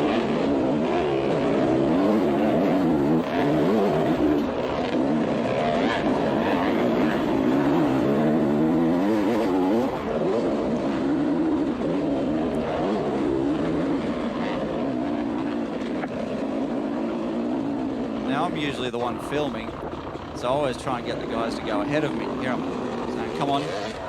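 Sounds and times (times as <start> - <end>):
motorbike engines revving over speakers: 0.0 - 24.0.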